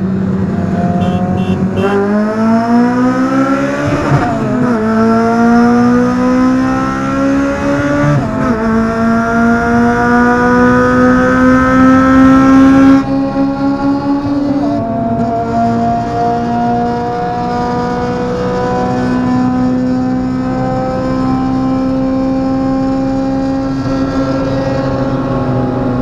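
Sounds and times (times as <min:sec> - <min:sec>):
car engine revving through gears: 0:00.2 - 0:26.0.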